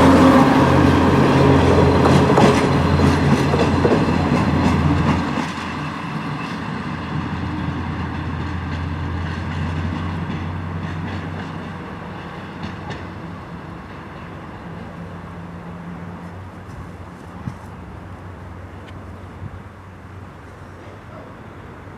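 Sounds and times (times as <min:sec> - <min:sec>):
train wheel noise: 0:00.0 - 0:19.6
diesel train engine hum: 0:00.0 - 0:21.9.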